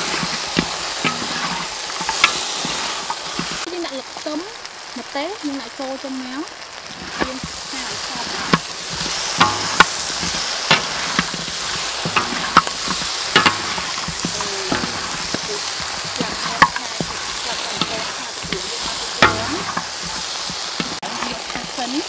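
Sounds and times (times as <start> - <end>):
metal spatula scraping a wok: 0.0 - 4.3, 6.8 - 22.0
chicken wings sizzling in a wok: 0.0 - 22.0.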